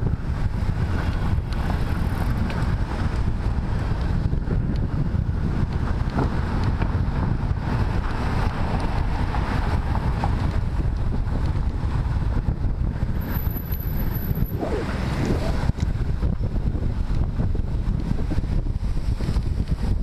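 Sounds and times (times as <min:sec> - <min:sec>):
skate wheels rolling on asphalt: 0:00.0 - 0:20.0
wind buffeting microphone: 0:00.0 - 0:20.0.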